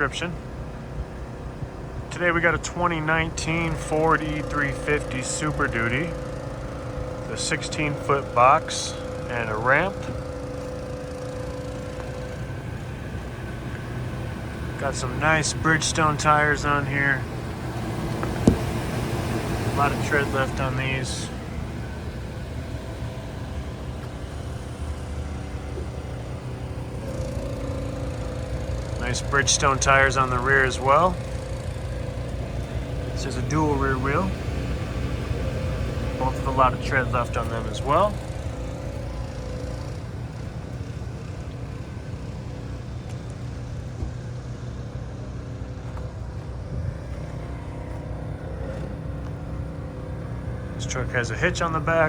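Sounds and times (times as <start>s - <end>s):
mid-pitched hum: 0.0s - 52.0s
traffic: 0.0s - 52.0s
vehicle engine rumble: 0.0s - 52.0s.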